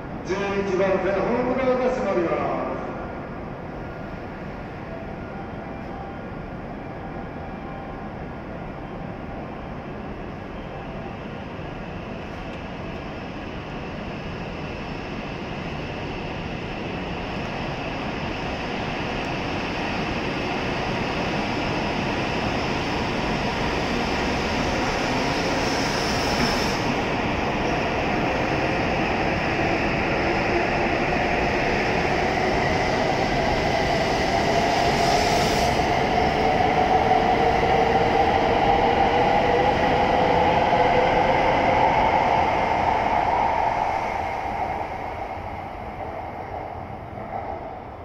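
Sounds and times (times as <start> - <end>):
train running noise: 0.0 - 48.0.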